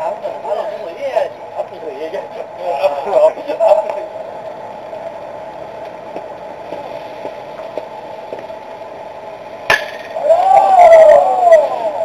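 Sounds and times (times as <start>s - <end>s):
ballfield background noise: 0.0s - 12.0s.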